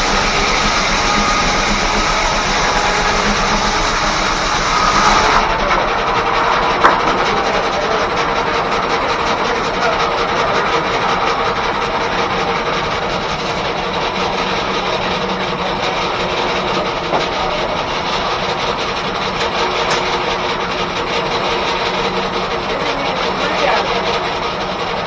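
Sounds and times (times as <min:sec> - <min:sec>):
steam-powered sawmill running: 0:00.0 - 0:25.0.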